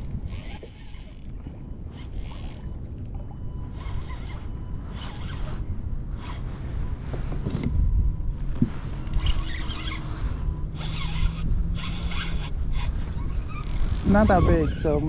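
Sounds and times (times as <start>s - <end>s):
fishing reel whirring: 0.0s - 6.4s, 9.0s - 15.0s.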